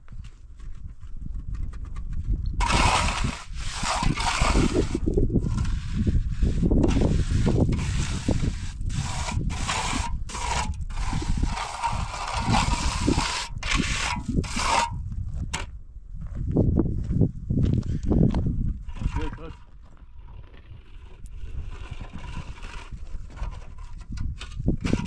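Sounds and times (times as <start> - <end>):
rough scraping and rubbing: 2.6 - 15.7, 17.8 - 25.0.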